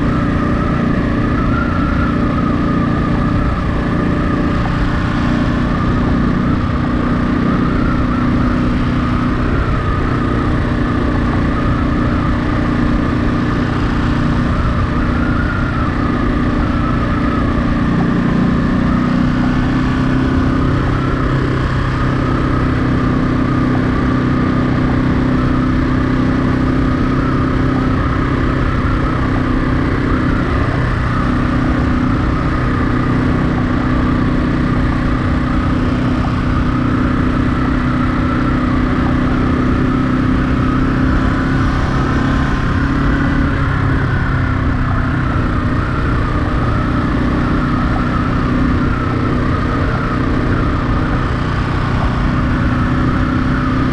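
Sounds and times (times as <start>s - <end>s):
low rumbling rush: 0.0s - 53.9s
motorcycle engine running: 0.0s - 53.9s.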